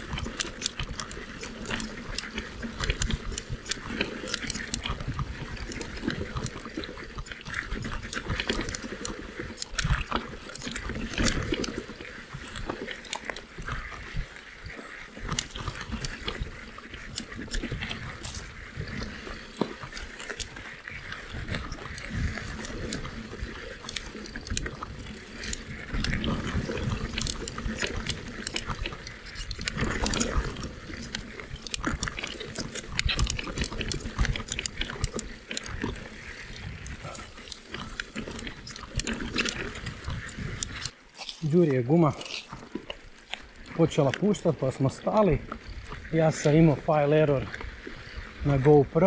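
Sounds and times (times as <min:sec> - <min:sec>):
bike tyres rolling over stones: 0:00.0 - 0:49.0.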